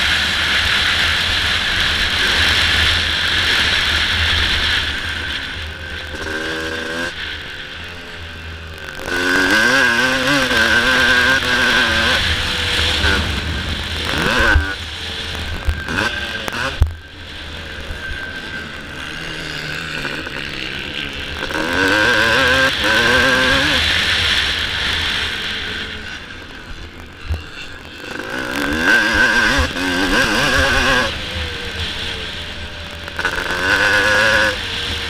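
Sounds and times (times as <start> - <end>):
two-stroke motorcycle revving: 0.0 - 35.0.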